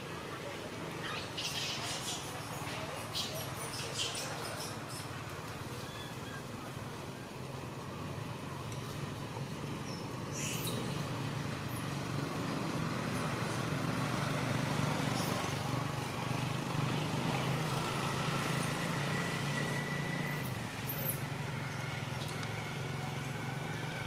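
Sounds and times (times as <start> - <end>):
low engine-like rumble: 0.0 - 24.0
outdoor background noise: 0.0 - 24.0.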